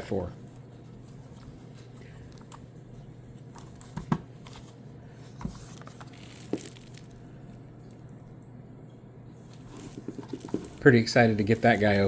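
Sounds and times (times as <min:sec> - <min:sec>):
light rustling of packaging: 0:00.1 - 0:08.1, 0:09.4 - 0:12.0.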